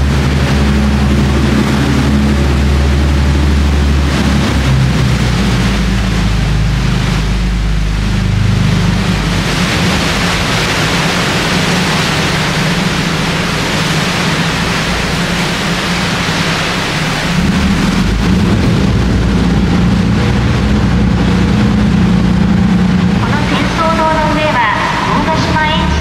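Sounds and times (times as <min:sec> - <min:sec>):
boat engine hum: 0:00.0 - 0:26.0
water rushing along hull: 0:00.0 - 0:26.0.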